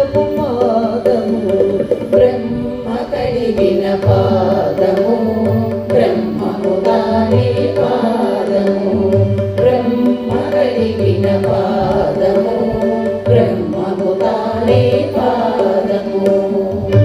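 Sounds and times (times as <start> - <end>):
drum strokes: 0.0 - 17.0.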